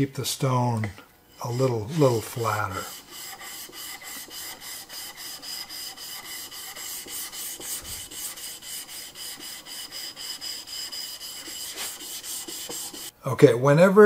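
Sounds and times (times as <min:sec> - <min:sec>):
chisel rasping on wet whetstone: 0:01.4 - 0:13.1.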